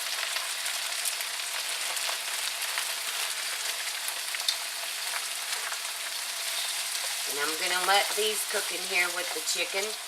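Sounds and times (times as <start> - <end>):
small crackles and pops: 0.0 - 8.7
food sizzling in a pan: 0.0 - 10.0.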